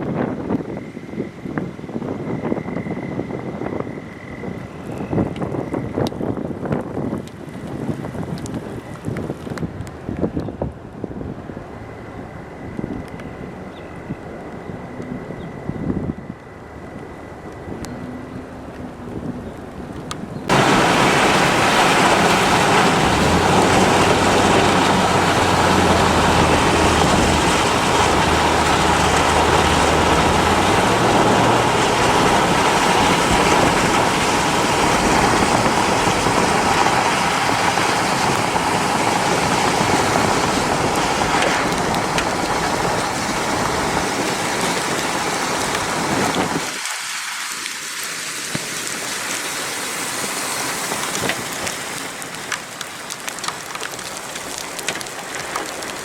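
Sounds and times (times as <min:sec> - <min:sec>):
heavy rain and wind: 0:00.0 - 0:56.0.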